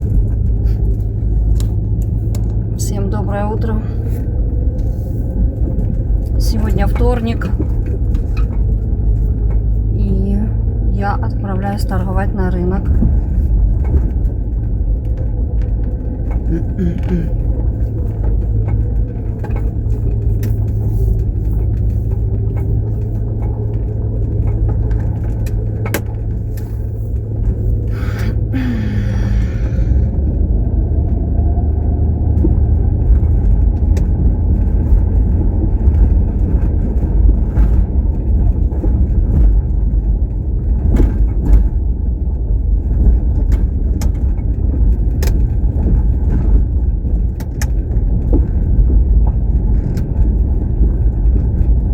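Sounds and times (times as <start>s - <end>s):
car engine rumble: 0.0s - 51.9s
road noise: 0.0s - 51.9s.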